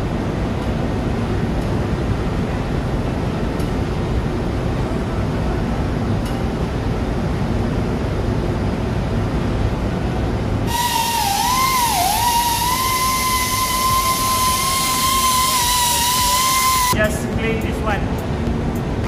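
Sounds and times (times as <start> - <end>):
engine room machinery rumble: 0.0 - 19.0.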